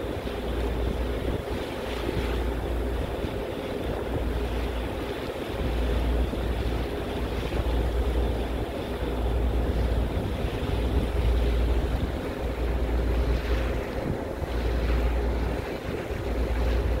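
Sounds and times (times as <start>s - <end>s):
ferry engine drone: 0.0s - 17.0s
water rushing past hull: 0.0s - 17.0s
wind buffeting microphone: 0.0s - 17.0s.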